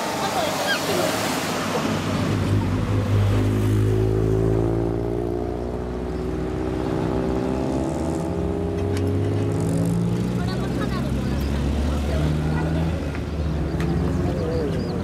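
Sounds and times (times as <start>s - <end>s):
car engine and exhaust passing: 0.6s - 15.0s.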